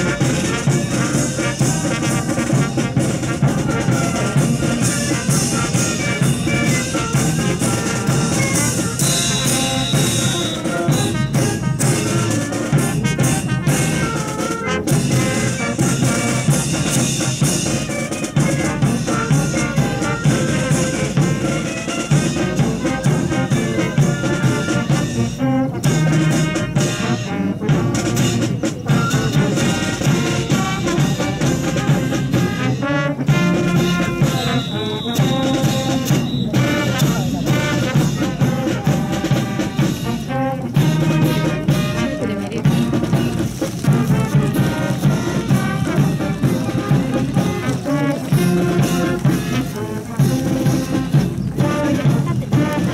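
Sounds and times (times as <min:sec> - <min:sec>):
drums: 0:00.0 - 0:52.9
trumpets and trombones playing: 0:00.0 - 0:52.9.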